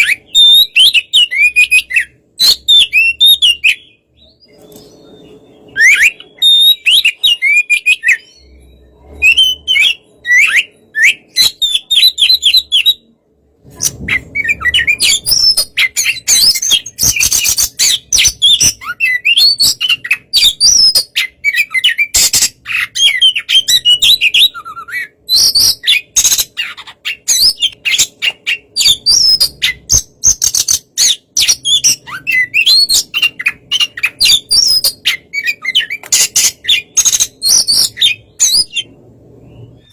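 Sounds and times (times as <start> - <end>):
bird singing varied chirps: 0.0 - 13.2, 13.9 - 39.9.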